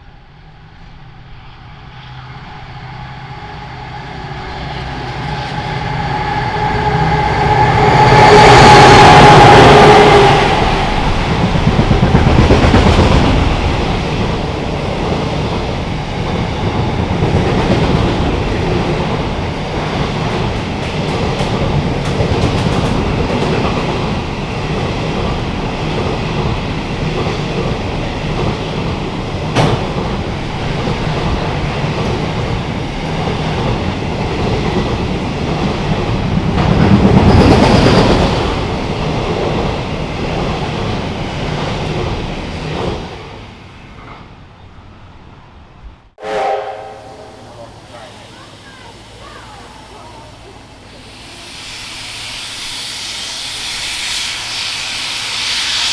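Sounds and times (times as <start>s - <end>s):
train rolling rumble: 0.0s - 55.9s.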